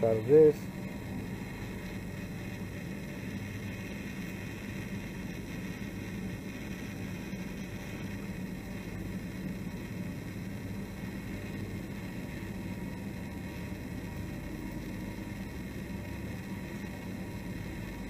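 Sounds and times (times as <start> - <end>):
even hiss: 0.0 - 18.0
low hum: 0.0 - 18.0.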